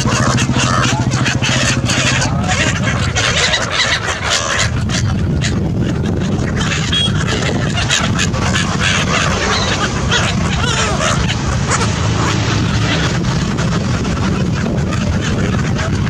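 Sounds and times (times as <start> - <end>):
gulls calling: 0.0 - 16.0
steady low rumble: 0.0 - 16.0
wings flapping: 0.0 - 16.0.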